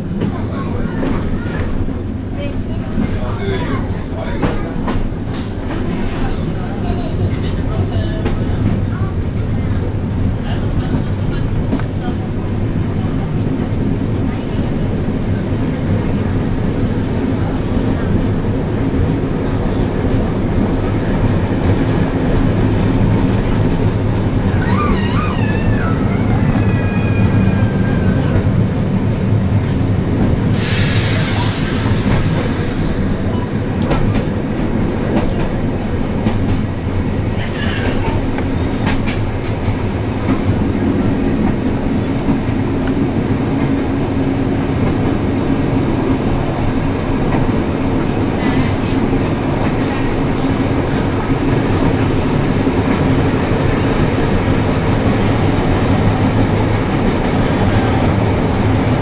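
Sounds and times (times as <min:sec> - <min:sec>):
tram running gear drone: 0:00.0 - 0:59.0.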